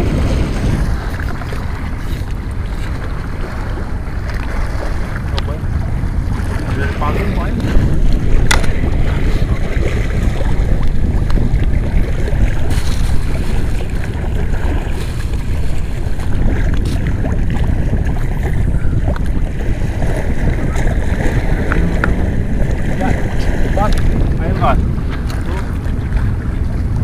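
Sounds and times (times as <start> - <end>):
sea water washing: 0.0 - 27.0
wind buffeting microphone: 0.0 - 27.0.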